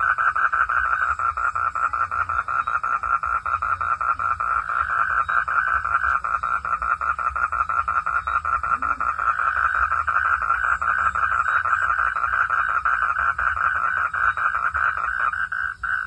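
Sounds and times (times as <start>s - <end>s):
frogs calling in chorus: 0.0s - 16.0s.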